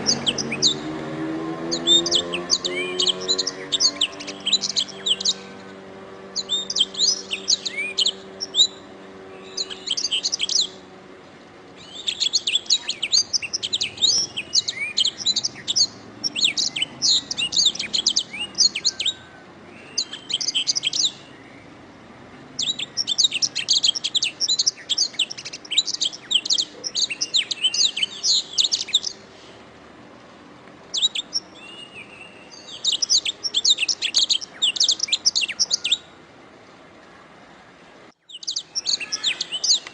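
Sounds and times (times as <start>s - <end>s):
canary singing: 0.0s - 11.0s, 11.8s - 21.8s, 22.5s - 29.3s, 30.9s - 36.2s, 38.2s - 39.9s.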